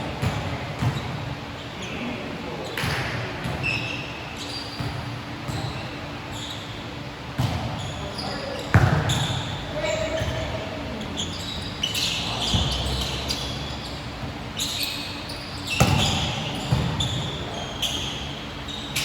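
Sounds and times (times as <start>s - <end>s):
sneaker squeaks: 0.2s - 19.0s.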